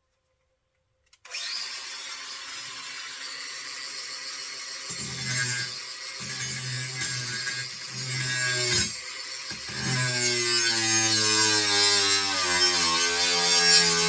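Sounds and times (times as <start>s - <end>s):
angle grinder cutting metal: 1.3s - 14.0s.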